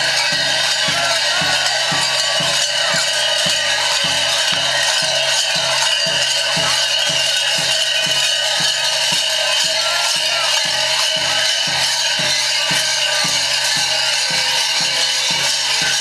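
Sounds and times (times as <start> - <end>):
large bells clanging: 0.0 - 16.0.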